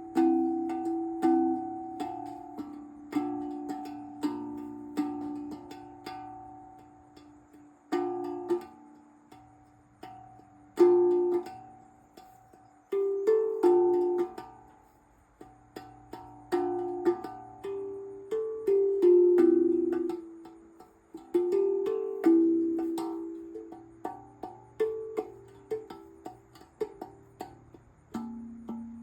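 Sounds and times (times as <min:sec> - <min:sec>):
steel tongue drum notes: 0:00.0 - 0:29.0.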